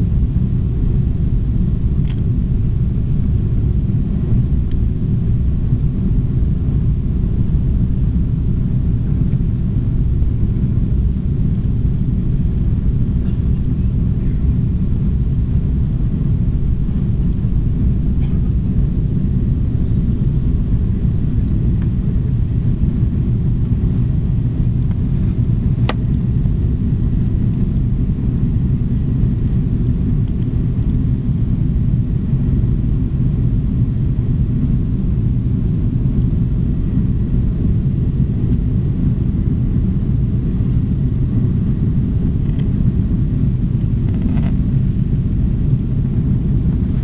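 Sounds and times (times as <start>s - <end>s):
airliner cabin engine rumble: 0.0s - 47.0s.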